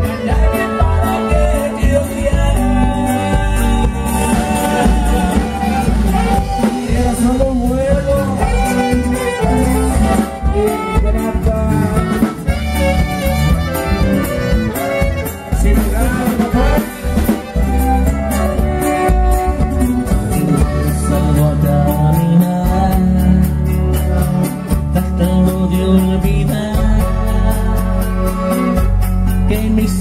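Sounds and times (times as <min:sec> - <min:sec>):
heavy bass beat: 0:00.0 - 0:30.0
live band playing dance music: 0:00.0 - 0:30.0.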